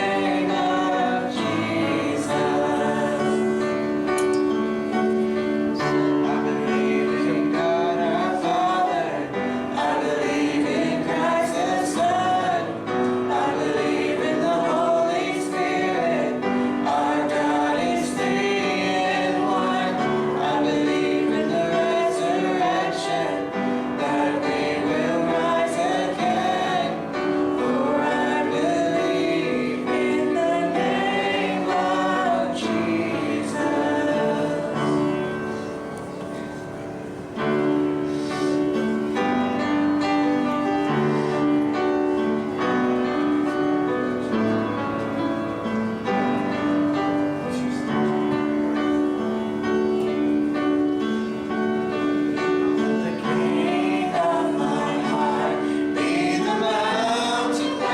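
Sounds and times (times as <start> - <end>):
instrumental accompaniment: 0.0 - 57.9
voices singing worship music: 0.0 - 57.9.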